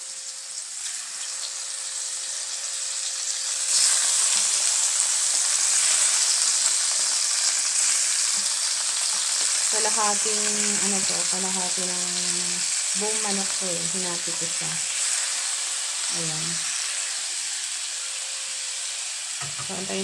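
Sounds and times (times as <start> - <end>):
chicken frying in a wok: 0.0 - 20.0.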